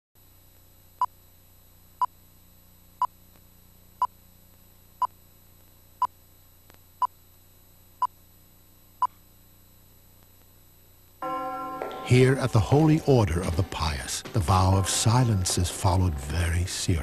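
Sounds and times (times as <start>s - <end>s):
faint steady hum: 0.2s - 17.0s.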